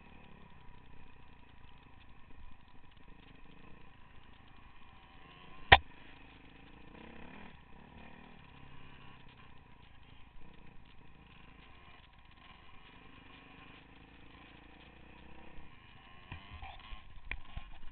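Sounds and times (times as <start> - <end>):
dirt bike engine revving: 0.0 - 17.8.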